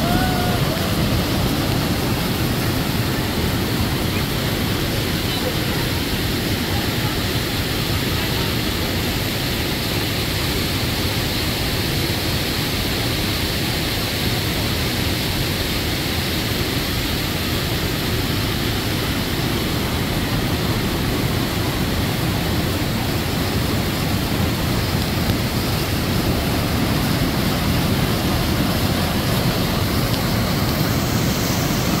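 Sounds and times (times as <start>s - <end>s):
river rapids and waterfall rushing: 0.0s - 32.0s.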